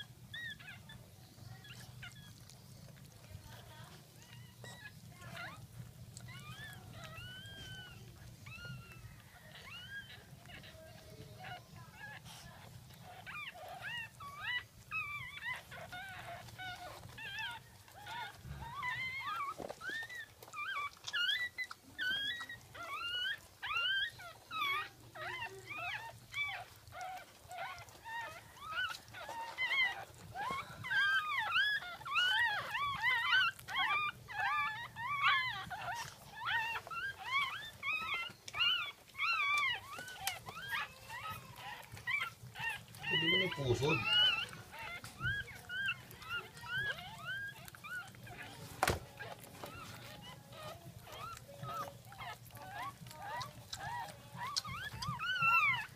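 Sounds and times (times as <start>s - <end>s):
puppies squeaking: 0.0s - 55.9s.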